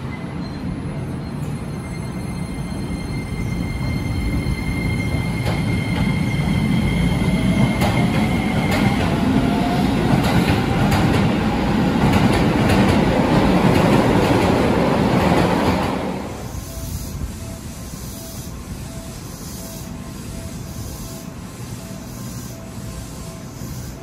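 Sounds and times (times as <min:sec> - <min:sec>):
train rumble: 0:00.0 - 0:24.0.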